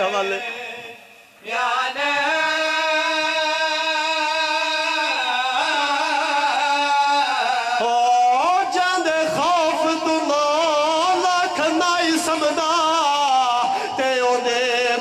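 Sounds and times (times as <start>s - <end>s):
man singing a lament into microphone: 0.0s - 15.0s.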